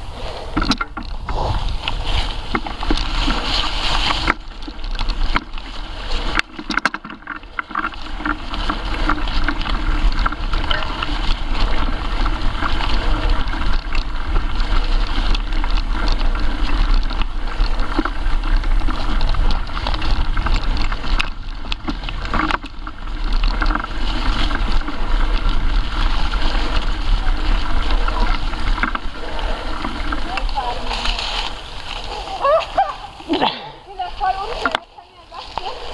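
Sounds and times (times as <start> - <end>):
wind on microphone: 0.0 - 33.3
bike rolling rumble and rattle: 0.0 - 35.9.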